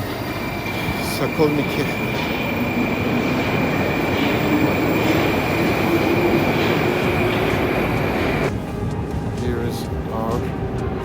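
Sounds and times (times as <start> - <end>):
high constant whine: 0.0 - 11.0
train rushing rumble: 0.0 - 11.0.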